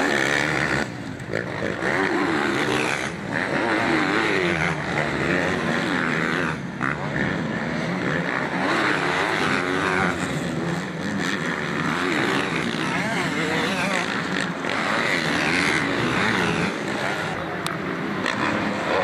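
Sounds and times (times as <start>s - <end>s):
motocross bikes revving past: 0.0s - 19.0s.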